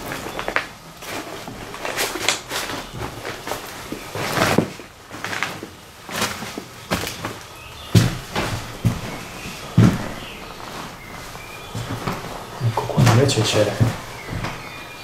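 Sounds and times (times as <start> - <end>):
footsteps crunching over paper: 0.0 - 15.0.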